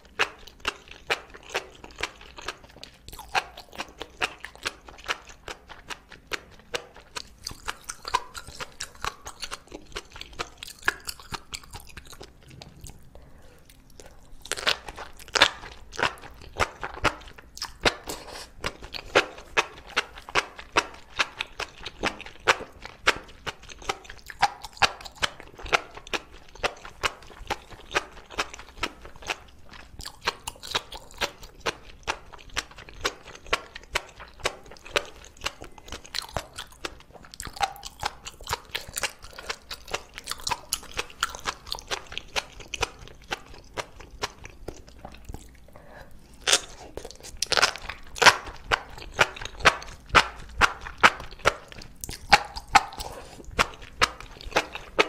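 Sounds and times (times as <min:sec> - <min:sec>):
chewing and biting mushrooms: 0:00.0 - 0:55.0.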